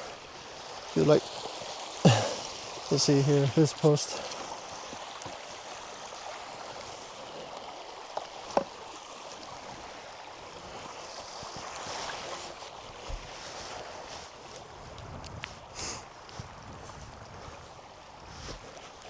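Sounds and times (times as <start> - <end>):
stream flowing: 0.0 - 19.0.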